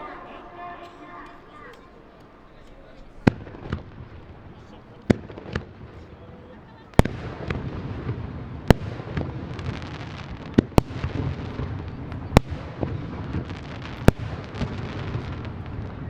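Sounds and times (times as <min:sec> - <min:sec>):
fireworks crackling: 0:00.0 - 0:16.0
fireworks bursting with bangs: 0:02.2 - 0:16.0.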